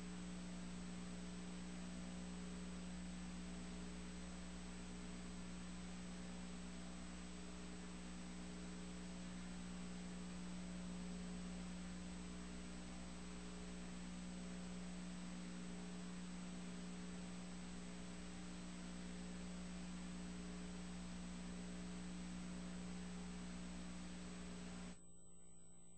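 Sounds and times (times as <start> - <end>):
faint high whine: 0.0 - 25.9
steady electrical hum: 0.0 - 25.9.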